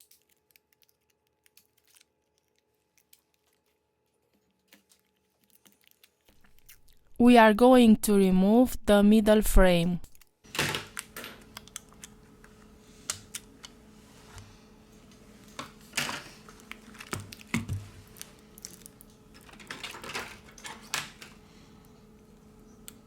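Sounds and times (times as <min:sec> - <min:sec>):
faint steady hum: 0:00.1 - 0:23.0.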